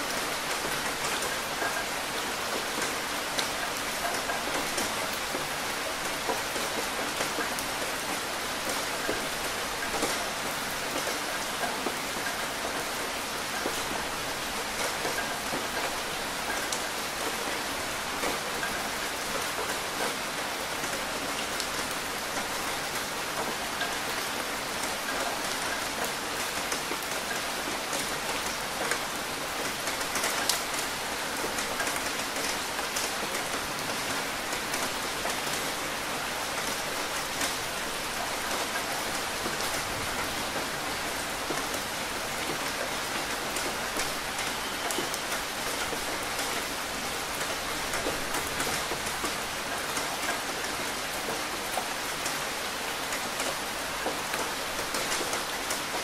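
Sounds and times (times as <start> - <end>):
rain drops tapping: 0.0 - 56.0
steady rain falling: 0.0 - 56.0.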